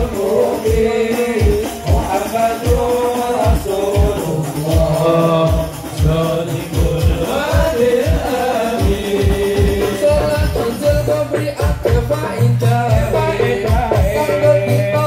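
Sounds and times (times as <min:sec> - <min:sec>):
deep drum beat: 0:00.0 - 0:15.0
frame drum and tambourine: 0:00.0 - 0:15.0
person singing devotional song: 0:00.0 - 0:15.0.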